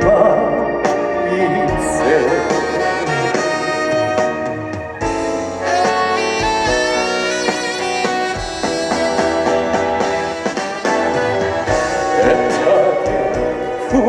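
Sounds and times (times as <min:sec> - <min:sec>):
bass and drums: 0:00.0 - 0:14.0
saxophone melody: 0:00.0 - 0:14.0.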